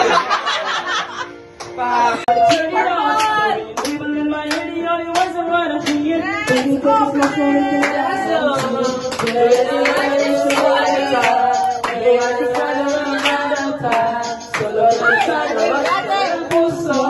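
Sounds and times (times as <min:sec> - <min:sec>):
backing track with beat: 0:00.0 - 0:17.0
man singing karaoke: 0:01.8 - 0:17.0.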